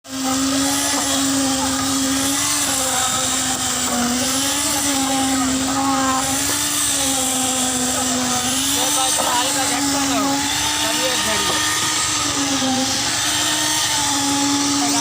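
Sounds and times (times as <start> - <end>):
construction machine motor humming: 0.0 - 15.0.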